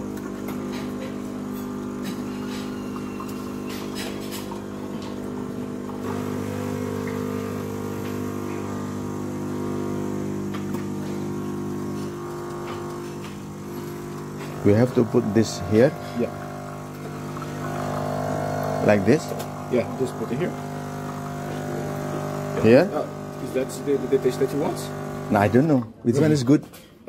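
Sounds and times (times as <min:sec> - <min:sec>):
coffee machine motor hum: 0:00.0 - 0:26.4.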